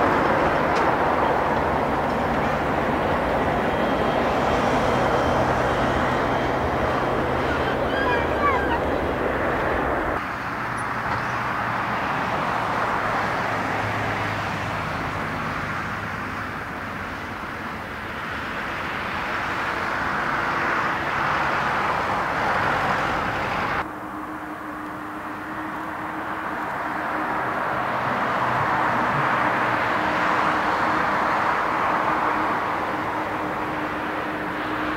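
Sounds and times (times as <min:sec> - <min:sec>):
jet airliner engines running: 0:00.0 - 0:34.9
low steady engine hum: 0:00.0 - 0:34.9.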